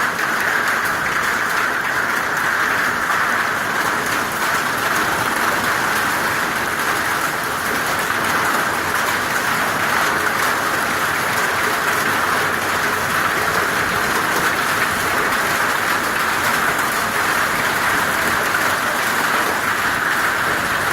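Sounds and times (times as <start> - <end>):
hail falling hard: 0.0 - 20.9.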